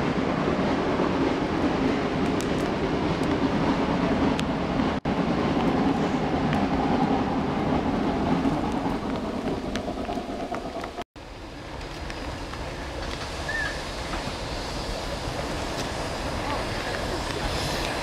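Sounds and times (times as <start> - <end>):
steam train rumbling past: 0.0 - 18.0.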